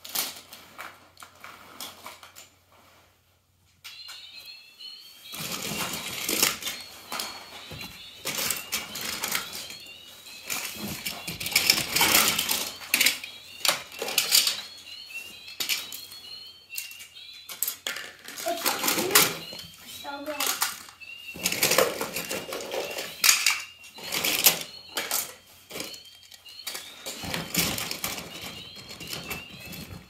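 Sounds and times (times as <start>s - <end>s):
toy cars clattering: 0.0s - 2.6s, 3.8s - 30.0s.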